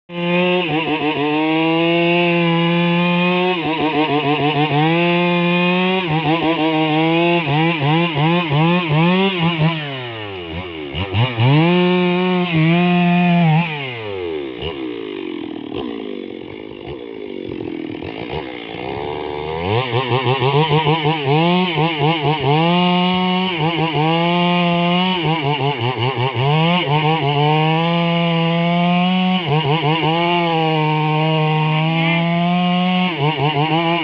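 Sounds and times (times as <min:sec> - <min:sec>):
chainsaw cutting wood: 0:00.1 - 0:34.0.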